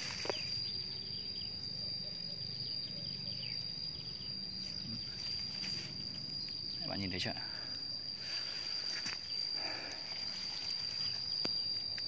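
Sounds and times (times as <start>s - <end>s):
insects high-pitched drone: 0.0s - 12.0s.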